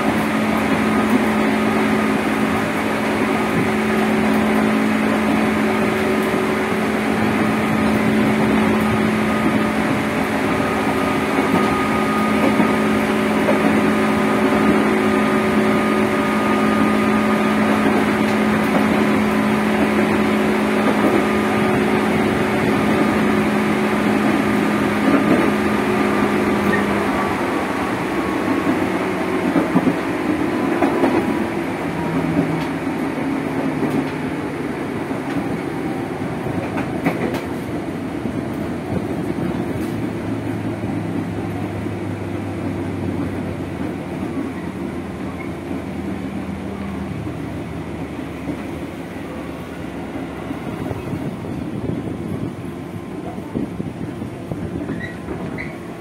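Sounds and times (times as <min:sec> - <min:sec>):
train traction motor whine: 0:00.0 - 0:56.0
wheel and rail noise: 0:00.0 - 0:56.0.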